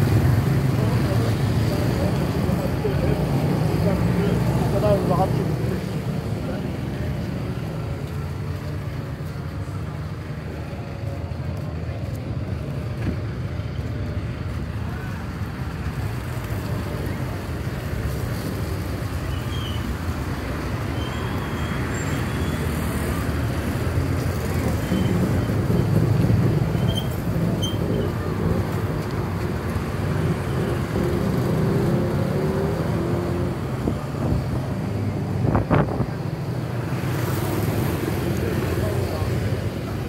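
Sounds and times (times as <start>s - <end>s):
passing cars and motorbikes: 0.0s - 40.0s.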